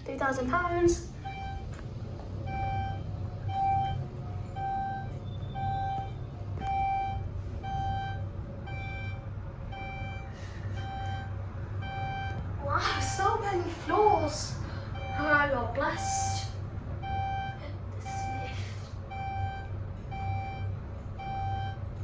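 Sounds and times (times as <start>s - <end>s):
elevator car humming: 0.0s - 22.0s
elevator beeps: 1.0s - 22.0s.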